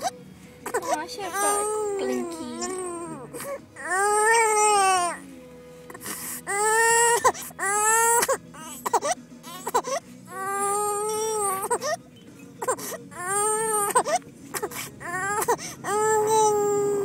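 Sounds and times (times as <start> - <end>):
baby crying: 0.6 - 5.2, 6.5 - 12.0, 12.6 - 17.0.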